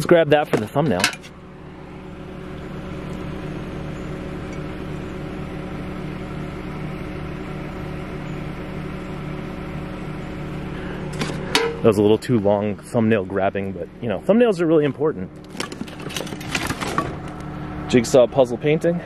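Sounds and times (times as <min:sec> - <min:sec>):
mechanical hum with steady tones: 0:00.0 - 0:19.0.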